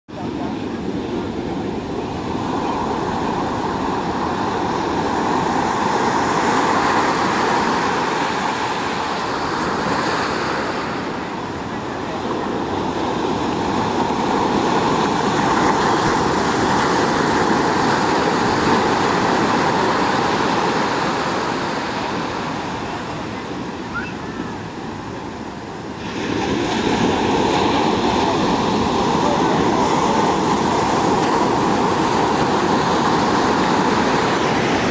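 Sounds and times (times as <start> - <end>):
ocean surf breaking: 0.1 - 34.9.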